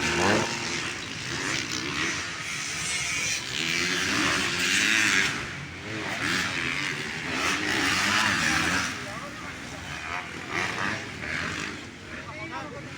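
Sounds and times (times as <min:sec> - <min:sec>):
dirt bike engines revving: 0:00.0 - 0:12.9.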